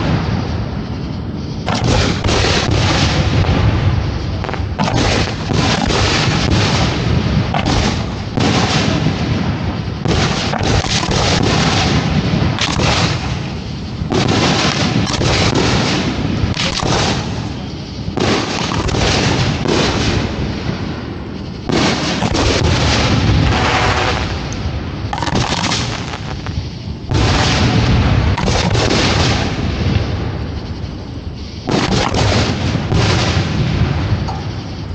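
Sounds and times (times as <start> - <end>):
fireworks booming: 0.0 - 34.9.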